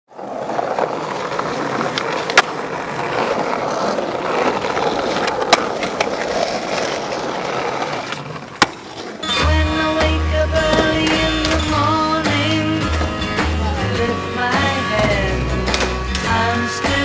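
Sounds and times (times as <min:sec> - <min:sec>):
skateboard clacks: 0:00.1 - 0:17.0
skateboard wheels rolling on paving: 0:00.1 - 0:17.0.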